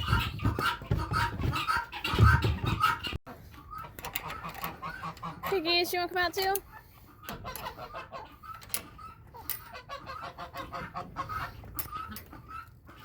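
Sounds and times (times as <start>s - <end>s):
geese honking: 0.0s - 6.1s, 6.7s - 13.0s.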